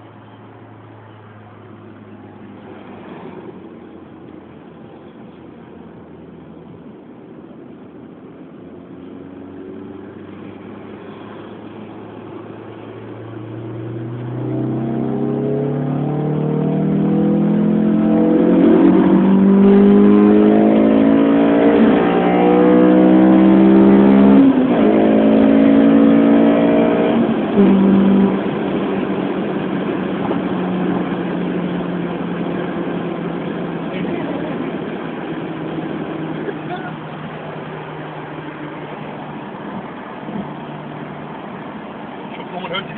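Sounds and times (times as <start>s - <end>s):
car engine accelerating: 0.0s - 42.9s.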